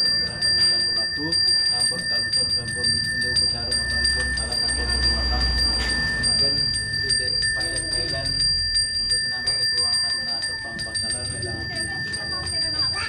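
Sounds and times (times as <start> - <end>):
handbell ringing rapidly: 0.0 - 13.0.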